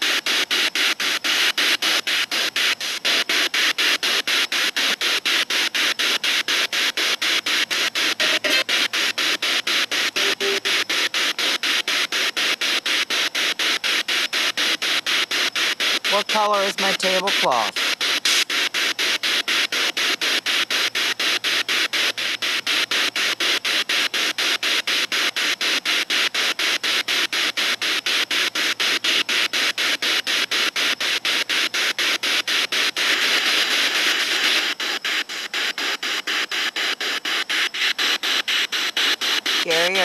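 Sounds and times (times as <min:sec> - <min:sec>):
choppy radio static: 0:00.0 - 0:40.0.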